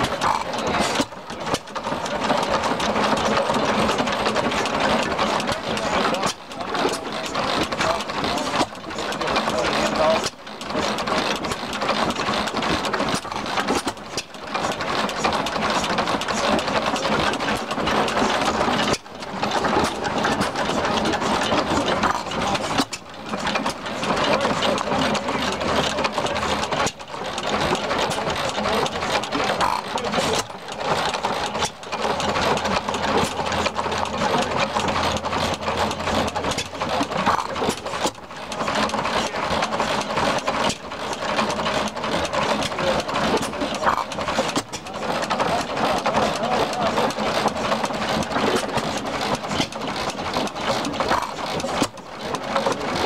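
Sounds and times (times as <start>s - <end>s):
stationary gas engine clattering: 0.0s - 53.0s.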